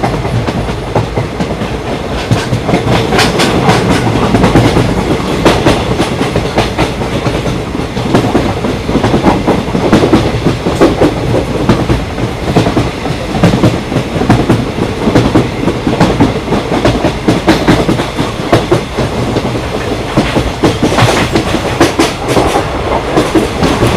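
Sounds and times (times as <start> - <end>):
train rumbling on rails: 0.0 - 23.9.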